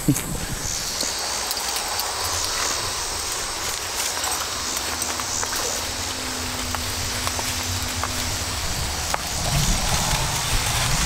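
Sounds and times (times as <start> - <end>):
insects chorus: 0.0 - 11.0
low microphone rumble: 0.0 - 11.0.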